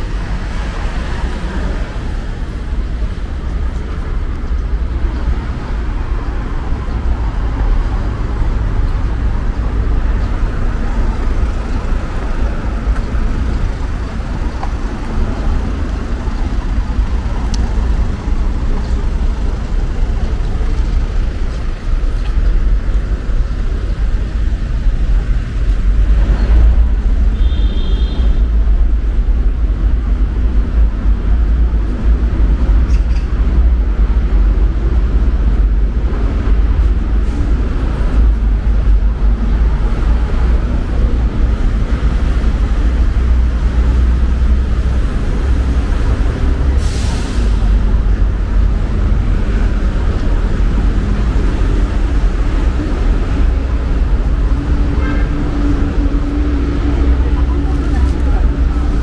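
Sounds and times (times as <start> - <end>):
passing vehicles rumbling: 0.0 - 59.0.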